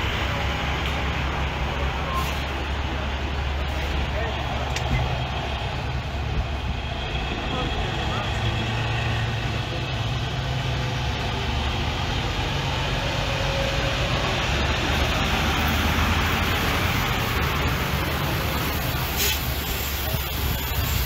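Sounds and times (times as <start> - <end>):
truck engine rumbling past: 0.0 - 21.0.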